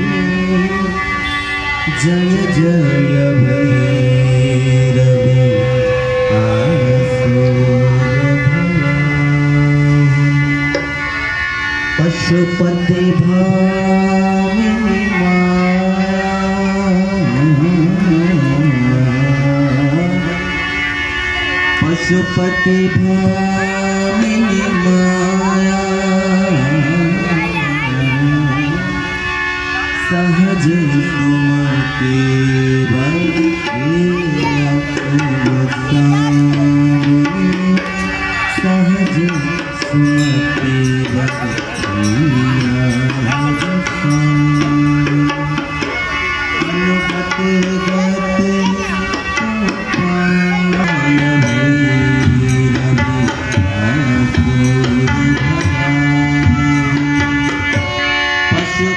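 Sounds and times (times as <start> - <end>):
harmonium chords: 0.0 - 58.9
man singing: 0.0 - 58.9
tabla: 0.0 - 58.9.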